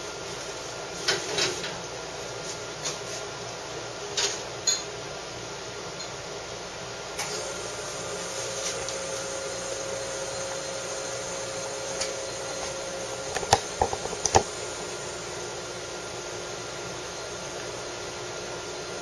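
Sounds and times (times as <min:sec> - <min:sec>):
espresso machine pump humming: 0:00.0 - 0:19.0.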